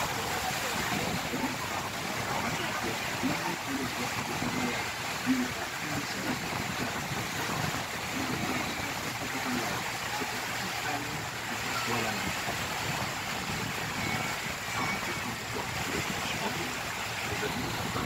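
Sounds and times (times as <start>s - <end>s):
boat motor noise: 0.0s - 18.0s
faint passengers' voices: 0.0s - 18.0s
water rushing: 0.0s - 18.0s.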